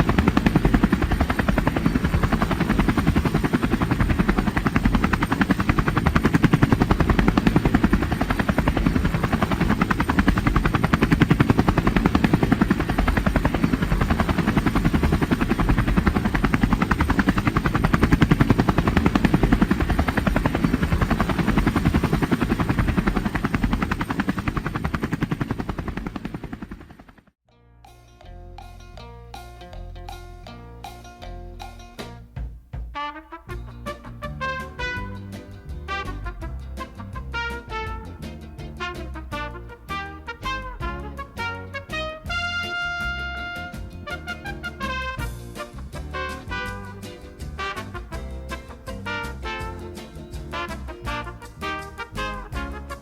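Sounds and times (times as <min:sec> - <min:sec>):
helicopter rotor beat: 0:00.0 - 0:27.4, 0:33.6 - 0:53.0.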